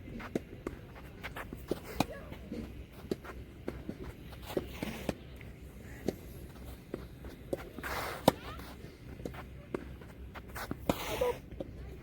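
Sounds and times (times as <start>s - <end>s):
footsteps on a tennis court: 0.0s - 12.0s.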